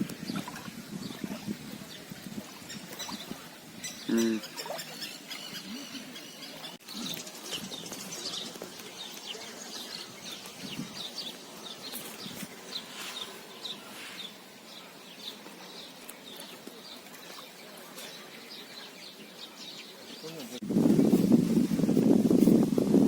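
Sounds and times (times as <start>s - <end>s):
faint outdoor air hiss: 0.0s - 23.0s
small birds chirping: 0.1s - 20.6s.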